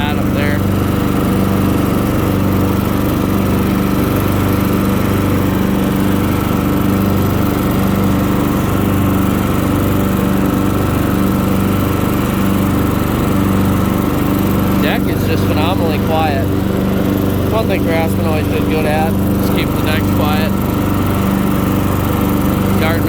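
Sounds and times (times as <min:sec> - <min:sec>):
mower blades whirring: 0:00.0 - 0:23.0
riding lawn mower engine: 0:00.0 - 0:23.0.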